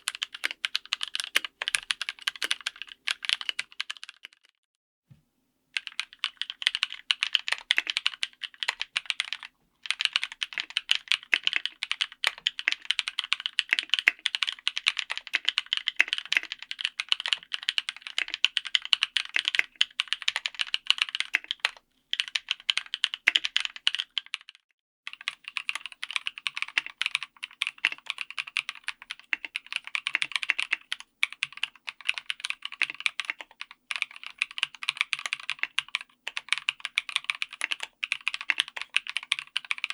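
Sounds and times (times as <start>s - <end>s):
mechanical keyboard typing: 0.0s - 4.5s, 5.8s - 24.5s, 25.1s - 39.9s.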